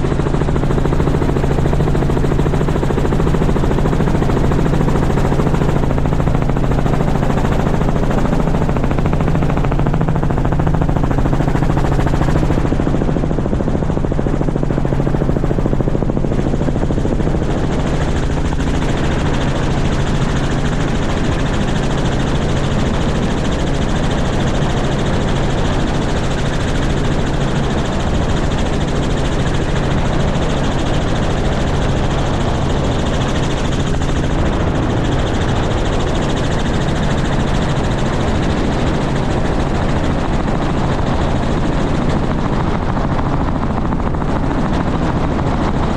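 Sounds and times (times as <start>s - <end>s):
helicopter drone: 0.0s - 45.9s.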